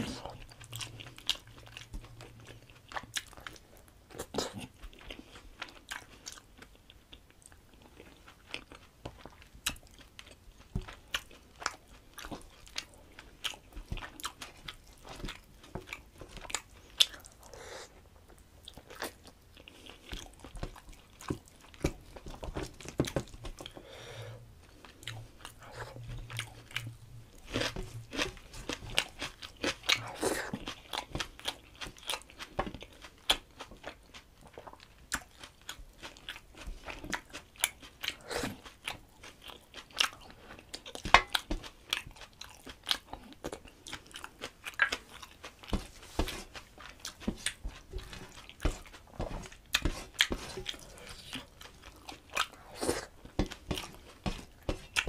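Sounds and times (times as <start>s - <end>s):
wet chewing with crunches: 0.0s - 17.6s, 18.3s - 23.8s, 24.6s - 55.0s.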